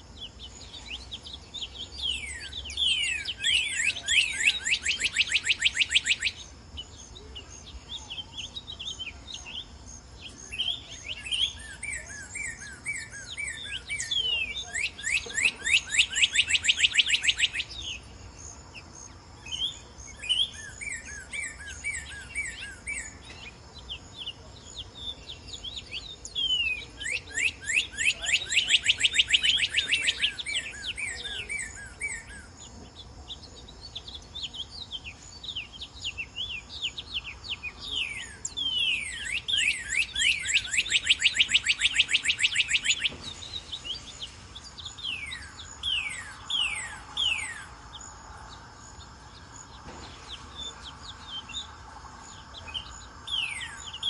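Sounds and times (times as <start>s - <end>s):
cardinal singing whistles: 0.0s - 18.1s, 19.5s - 32.8s, 33.4s - 54.0s
birds chirping softly: 0.0s - 54.0s
high insect drone: 0.0s - 54.0s.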